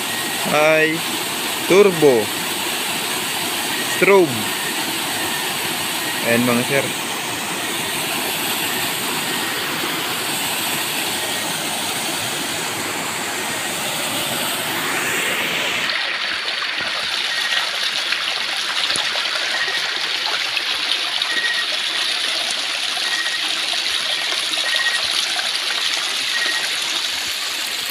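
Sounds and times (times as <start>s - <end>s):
water running over rock: 0.0s - 27.9s
waterfall rushing into pool: 0.0s - 27.9s.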